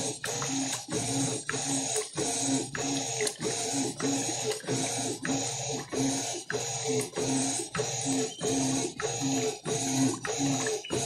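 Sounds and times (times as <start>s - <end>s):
motor hum: 0.0s - 11.0s
washing machine agitator churning: 0.0s - 11.0s.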